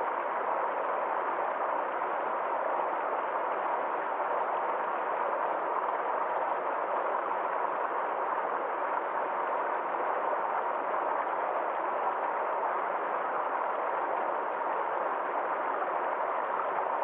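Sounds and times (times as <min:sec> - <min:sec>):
forest stream flowing: 0:00.0 - 0:17.0.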